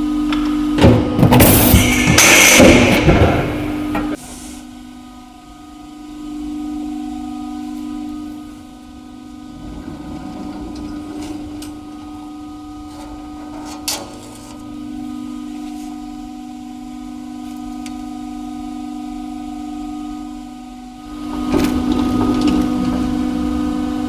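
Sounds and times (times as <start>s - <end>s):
hydraulic pump motor hum: 0.0s - 24.0s.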